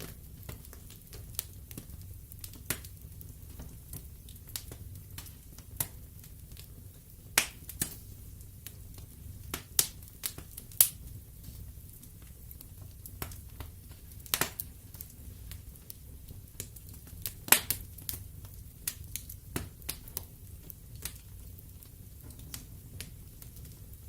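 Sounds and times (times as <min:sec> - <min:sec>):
logs crackling in fireplace: 0:00.0 - 0:24.0.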